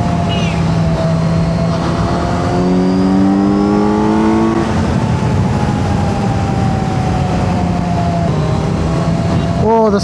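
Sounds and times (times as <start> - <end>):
motorcycle engine revving: 0.0 - 10.0
wind rush: 0.0 - 10.0.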